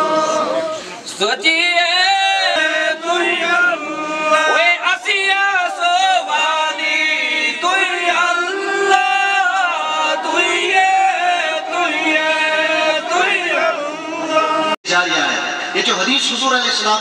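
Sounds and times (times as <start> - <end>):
man chanting: 0.0 - 14.8.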